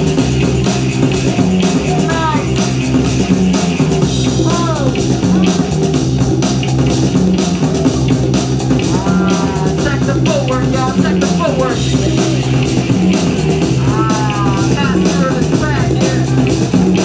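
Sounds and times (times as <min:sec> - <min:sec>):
loud music with heavy bass: 0:00.0 - 0:17.0.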